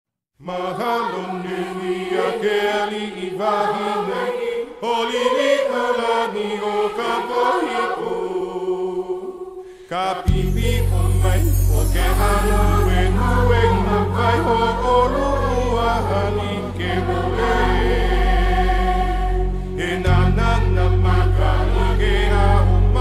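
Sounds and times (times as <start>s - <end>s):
chorus chanting: 0.4s - 23.0s.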